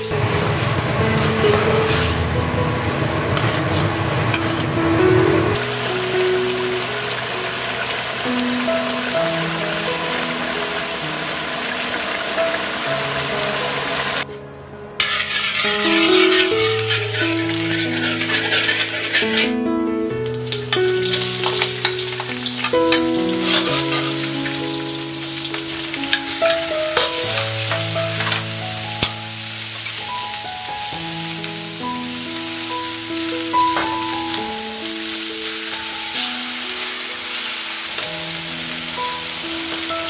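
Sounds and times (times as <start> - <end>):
intestines sizzling in hot oil: 0.0 - 4.8, 5.5 - 14.2, 15.0 - 19.5, 20.3 - 40.0
soft background music: 0.0 - 40.0.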